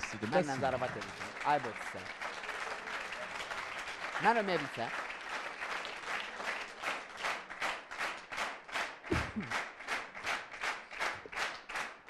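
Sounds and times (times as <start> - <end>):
audience clapping in rhythm: 0.0 - 12.0.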